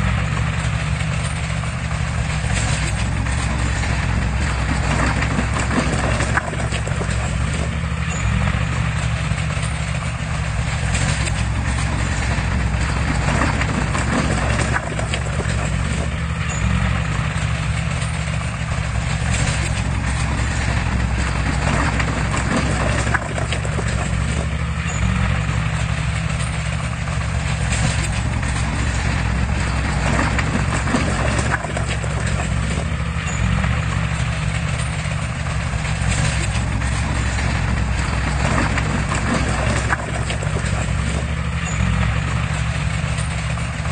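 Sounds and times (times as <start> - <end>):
diesel machinery engine running: 0.0 - 43.9
knocks and clatter: 0.0 - 43.9.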